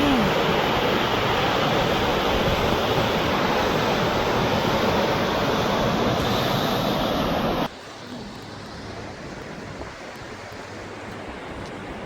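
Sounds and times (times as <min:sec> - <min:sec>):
loud outdoor rushing noise: 0:00.0 - 0:11.0.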